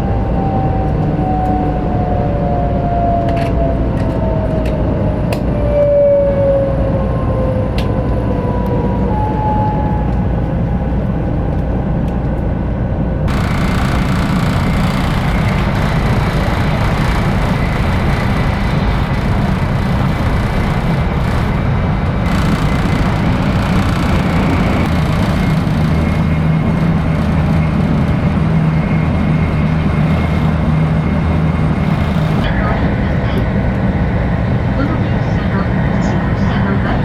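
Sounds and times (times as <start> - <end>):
train rumble at speed: 0.0 - 37.0.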